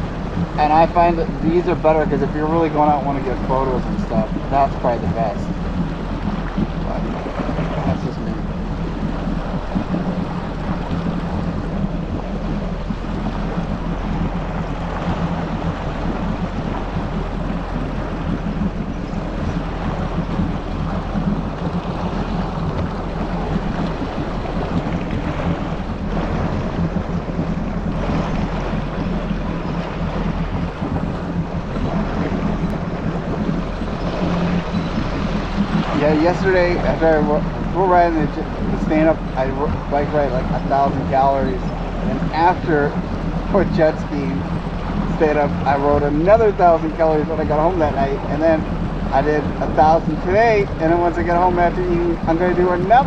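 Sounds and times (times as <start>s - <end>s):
water wash: 0.0s - 53.0s
watercraft engine humming: 0.0s - 53.0s
wind noise: 0.0s - 53.0s.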